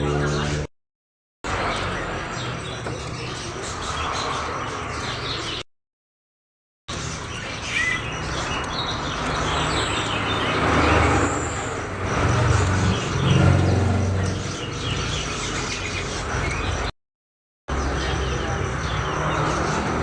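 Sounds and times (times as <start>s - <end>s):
songbirds chirping and twittering: 0.0s - 0.7s, 1.4s - 5.7s, 6.9s - 17.0s, 17.7s - 20.0s.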